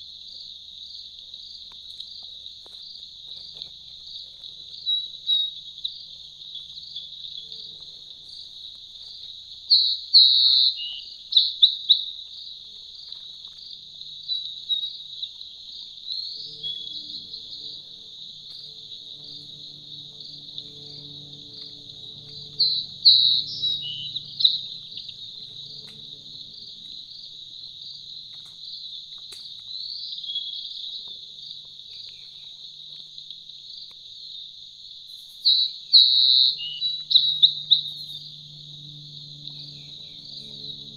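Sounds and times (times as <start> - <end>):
insects chirring: 0.0 - 40.9
bird chirps: 3.4 - 31.2, 35.2 - 40.9.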